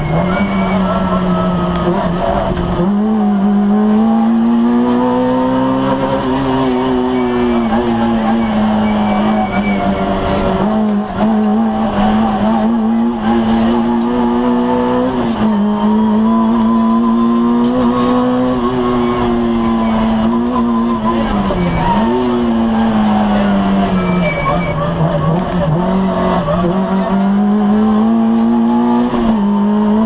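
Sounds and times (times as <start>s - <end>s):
rally car engine pulling hard: 0.0s - 30.0s.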